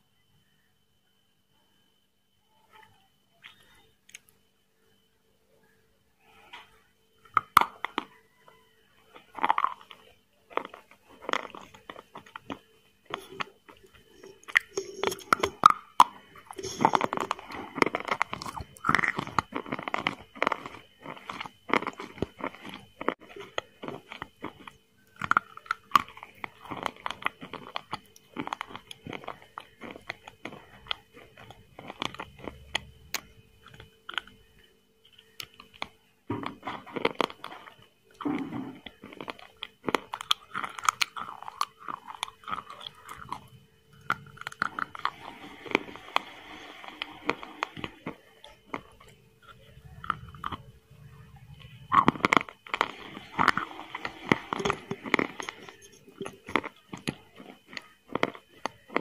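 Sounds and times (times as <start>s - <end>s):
person chewing and crunching: 6.3s - 59.0s.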